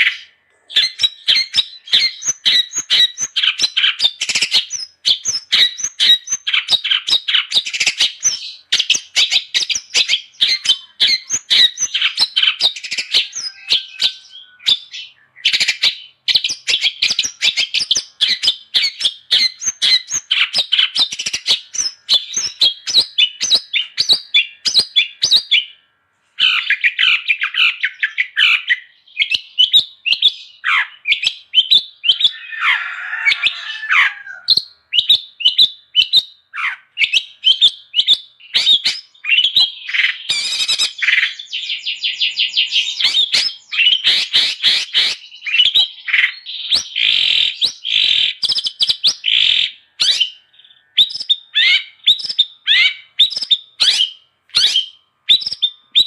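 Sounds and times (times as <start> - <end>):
bird chattering song: 0.0 - 25.8, 26.4 - 56.0.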